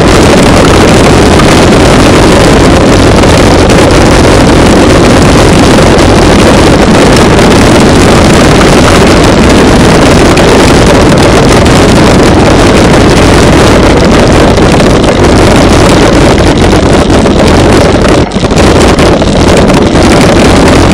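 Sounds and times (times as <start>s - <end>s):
wind buffeting on microphone: 0.0s - 20.9s.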